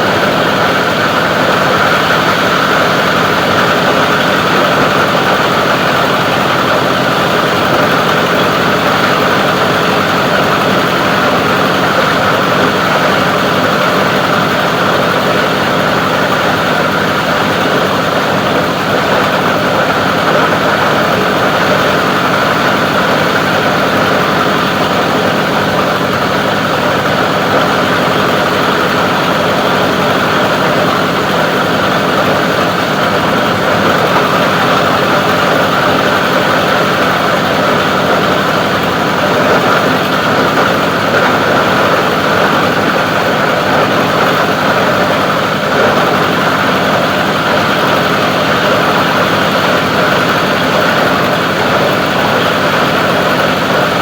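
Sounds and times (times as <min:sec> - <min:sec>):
grinder machine running: 0:00.0 - 0:54.0.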